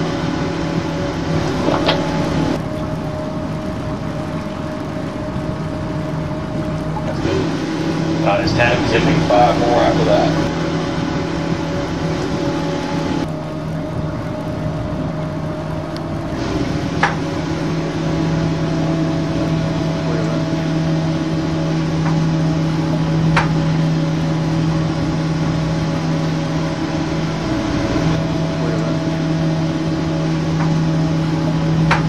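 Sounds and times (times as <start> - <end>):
boat engine humming: 0.0 - 32.0.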